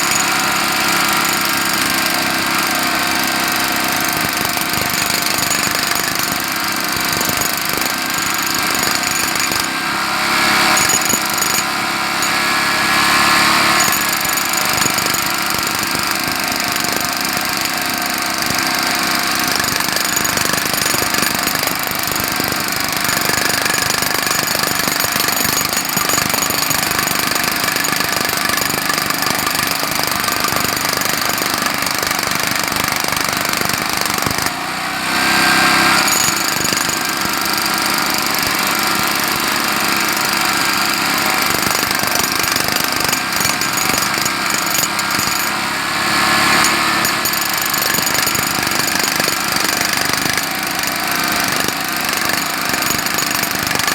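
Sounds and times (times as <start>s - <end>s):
jackhammer hammering: 0.0s - 53.9s.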